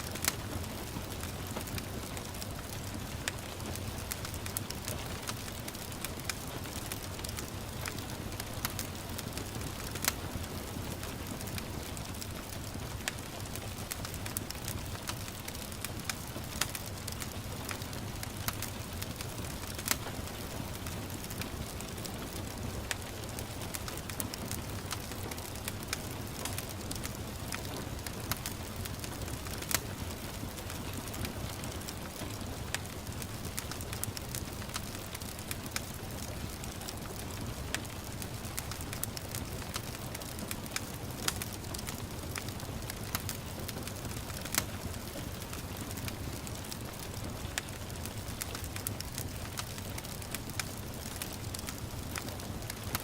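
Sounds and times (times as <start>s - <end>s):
gentle rain hiss: 0.0s - 53.0s
wood fire crackling: 0.0s - 53.0s.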